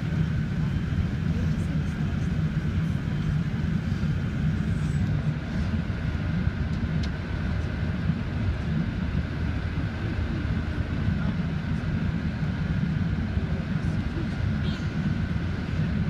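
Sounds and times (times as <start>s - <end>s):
jet engine roar in cabin: 0.0s - 16.0s.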